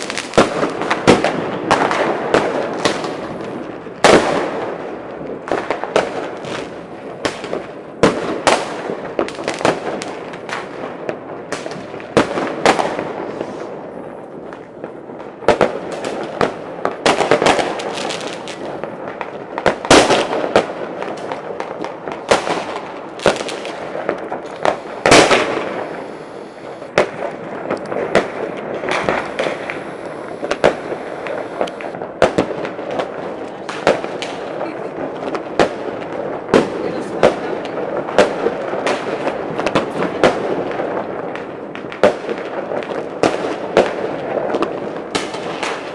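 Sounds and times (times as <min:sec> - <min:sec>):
firecracker bangs: 0:00.0 - 0:45.9
fireworks crackling: 0:00.0 - 0:45.9.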